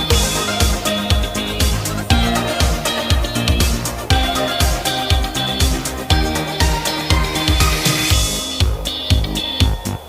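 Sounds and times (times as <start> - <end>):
upbeat disco music: 0.0 - 10.0.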